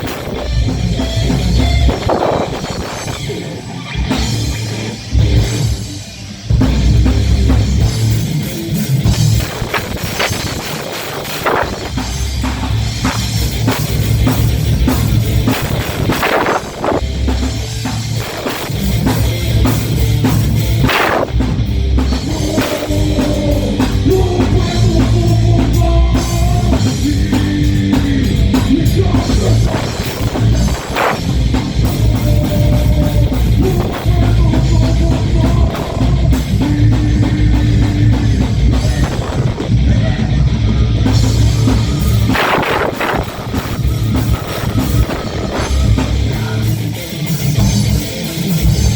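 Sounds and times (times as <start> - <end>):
electric guitars: 0.0 - 48.9
heavy rock band playing live: 0.0 - 48.9
pounding drum kit: 0.0 - 48.9.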